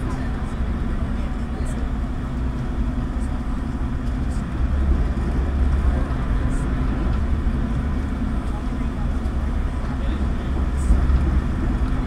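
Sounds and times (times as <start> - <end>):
ferry engine rumbling: 0.0 - 12.0.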